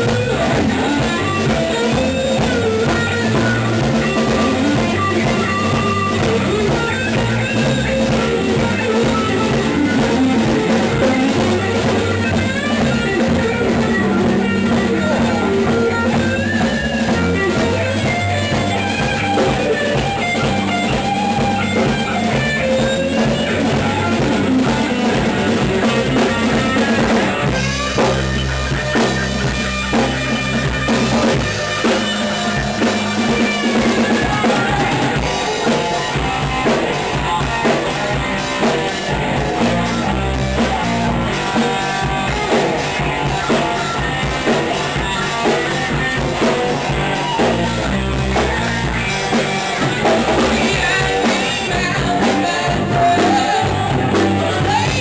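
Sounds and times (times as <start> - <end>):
drum kit: 0.0 - 55.0
electric bass guitar: 0.0 - 55.0
electric guitar: 0.0 - 55.0.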